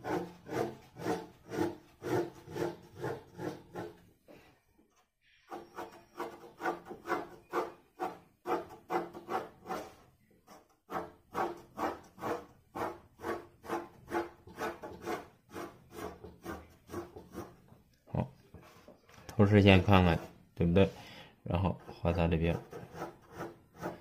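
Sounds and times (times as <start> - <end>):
pencil scratching on paper: 0.0 - 4.0, 5.5 - 17.7, 19.7 - 20.4, 21.8 - 24.0.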